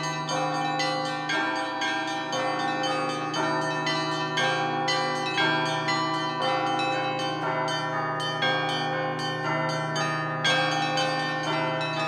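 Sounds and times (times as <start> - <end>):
large bell humming: 0.0 - 12.0
small church bells ringing: 0.0 - 12.0.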